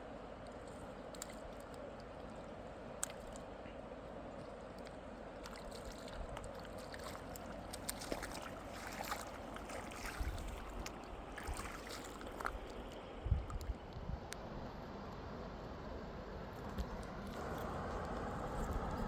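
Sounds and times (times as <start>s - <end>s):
river water running: 0.0s - 19.0s
clicks and splashes: 0.4s - 3.5s, 4.3s - 14.1s, 16.6s - 19.0s.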